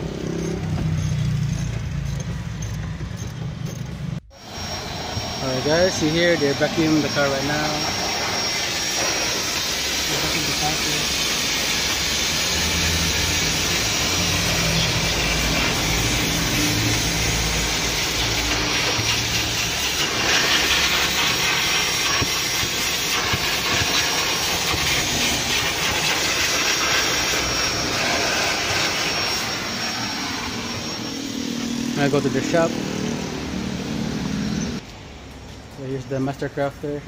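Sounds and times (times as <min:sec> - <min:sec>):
shop vacuum running: 0:00.0 - 0:34.8
thin high whine: 0:04.3 - 0:34.8.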